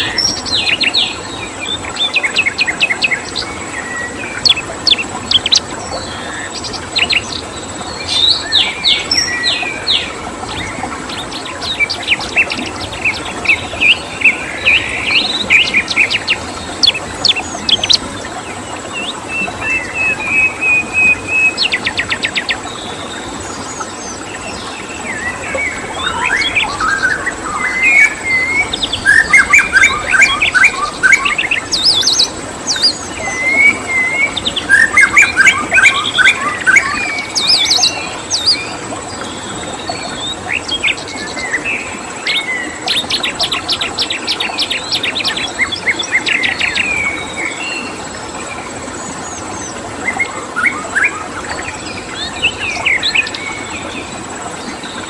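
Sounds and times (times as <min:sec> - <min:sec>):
small birds chirping and trilling: 0:00.0 - 0:48.0, 0:49.0 - 0:54.1
running water hiss: 0:00.0 - 0:55.0.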